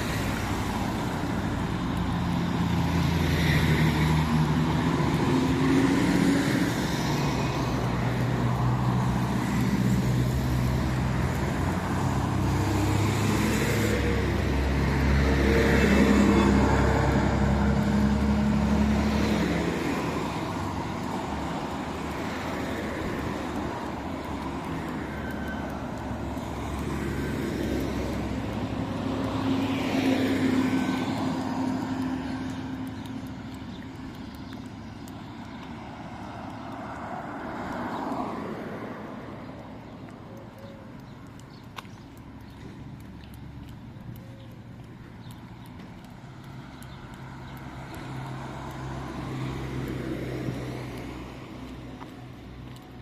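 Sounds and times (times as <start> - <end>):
motor vehicles passing: 0.0 - 53.0.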